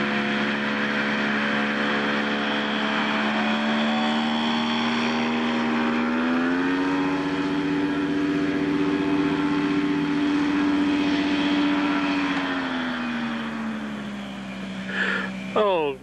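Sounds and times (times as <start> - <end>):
propeller engine running hard: 0.0 - 16.0.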